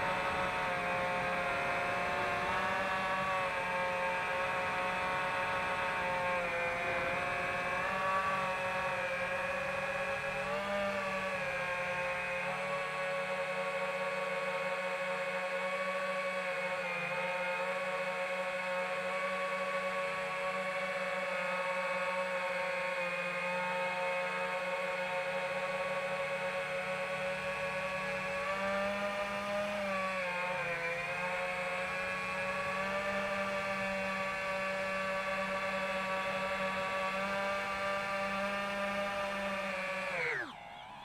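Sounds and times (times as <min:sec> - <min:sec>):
drone motors whining: 0:00.0 - 0:41.0.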